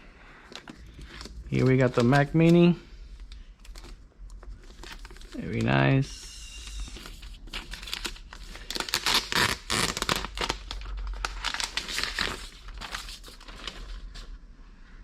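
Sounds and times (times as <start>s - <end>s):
packaging crinkling and rustling: 0.4s - 14.4s.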